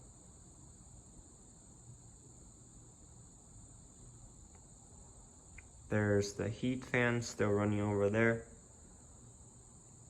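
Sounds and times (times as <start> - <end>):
high-pitched hiss: 0.0 - 10.0.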